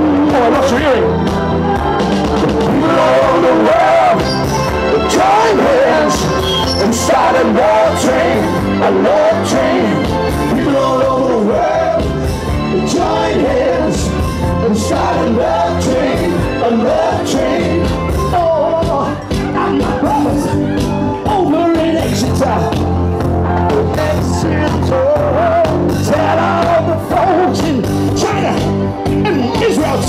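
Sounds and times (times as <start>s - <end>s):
band playing soul-rock song: 0.0s - 30.0s
lead vocal singing: 0.0s - 30.0s.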